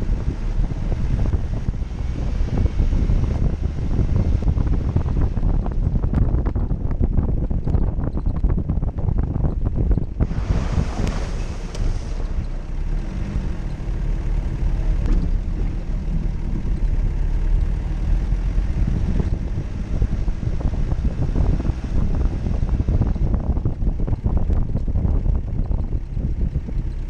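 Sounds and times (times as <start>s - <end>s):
engine deep rumble: 0.0s - 27.0s
faint steady engine tone: 0.0s - 27.0s.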